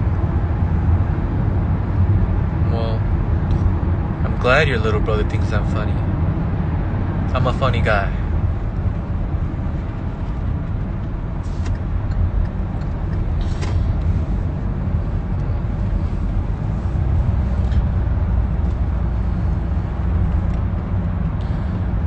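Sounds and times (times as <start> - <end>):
car cabin rumble: 0.0 - 22.0.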